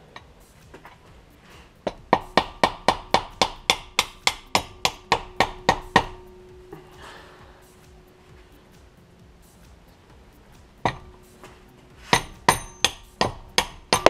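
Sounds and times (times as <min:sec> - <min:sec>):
hammer striking metal: 0:00.6 - 0:09.8, 0:10.6 - 0:14.0.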